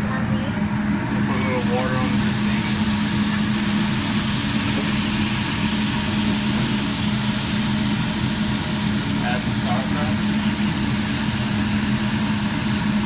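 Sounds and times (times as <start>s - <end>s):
low machine hum: 0.0s - 13.0s
water sizzling on hot griddle: 1.0s - 13.0s.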